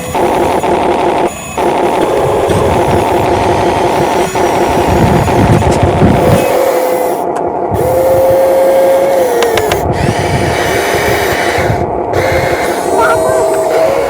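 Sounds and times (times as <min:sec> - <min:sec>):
small electric motors whining: 0:00.0 - 0:14.0
low uneven rumble: 0:02.1 - 0:14.0.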